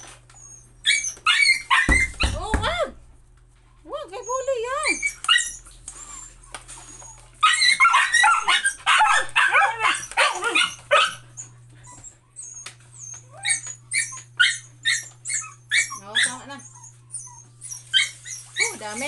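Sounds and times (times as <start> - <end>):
dogs whining and yipping: 0.0 - 2.5, 4.1 - 19.0.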